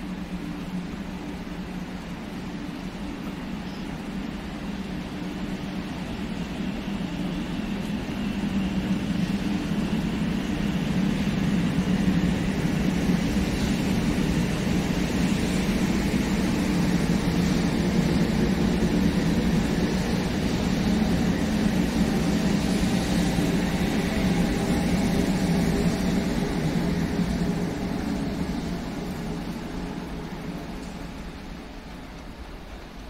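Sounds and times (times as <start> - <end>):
train rumble with low hum: 0.0 - 33.0.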